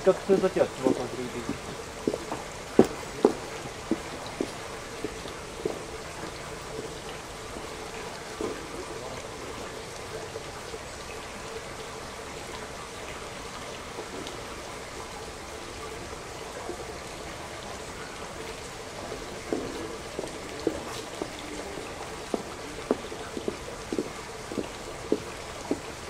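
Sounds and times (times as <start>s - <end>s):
running water hissing: 0.0s - 26.0s.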